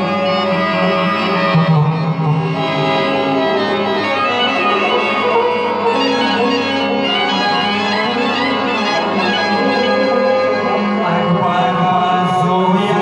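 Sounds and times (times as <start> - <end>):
instrumental devotional music: 0.0 - 13.0.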